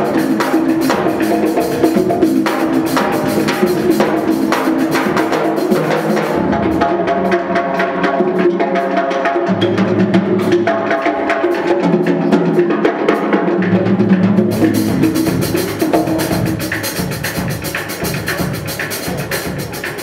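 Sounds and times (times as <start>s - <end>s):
drums struck: 0.0s - 20.0s.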